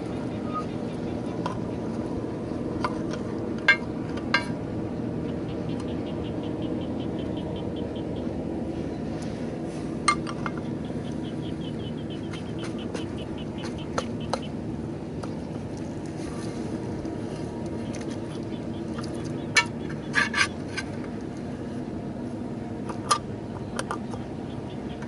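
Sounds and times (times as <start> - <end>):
steady engine hum: 0.0 - 25.0.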